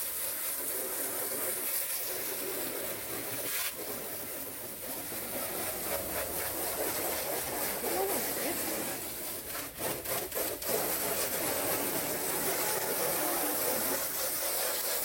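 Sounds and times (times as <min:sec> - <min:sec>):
hose spray hissing on boat hull: 0:00.0 - 0:15.0.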